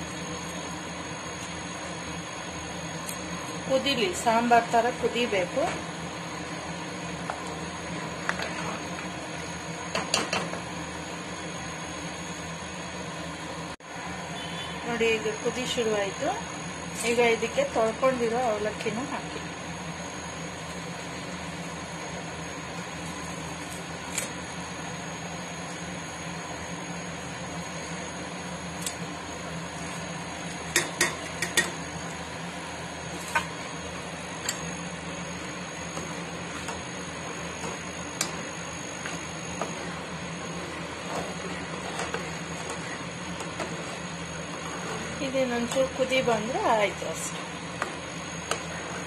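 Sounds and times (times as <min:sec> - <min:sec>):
pot boiling on a stove: 0:00.0 - 0:49.0.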